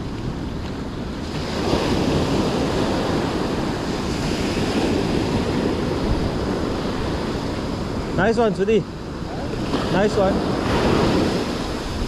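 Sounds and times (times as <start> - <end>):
waves washing onto shore: 0.0 - 12.0.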